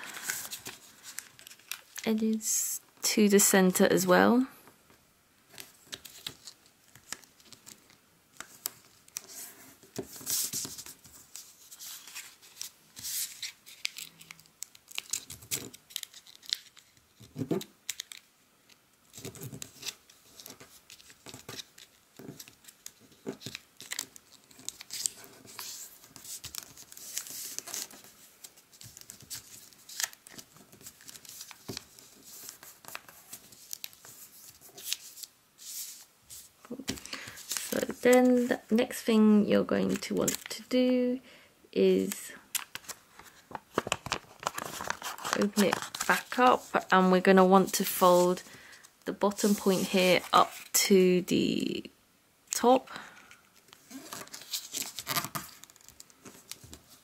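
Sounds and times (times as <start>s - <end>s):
paper rustling and crinkling: 0.0s - 2.1s, 5.5s - 18.3s, 19.1s - 38.8s, 39.8s - 40.5s, 42.0s - 50.8s, 53.1s - 57.0s.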